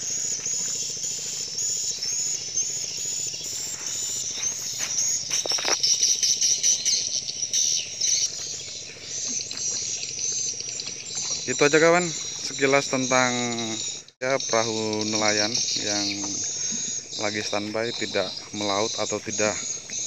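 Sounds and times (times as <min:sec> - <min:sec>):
bird chirps: 0:00.0 - 0:20.0
insects chirping: 0:00.0 - 0:20.0.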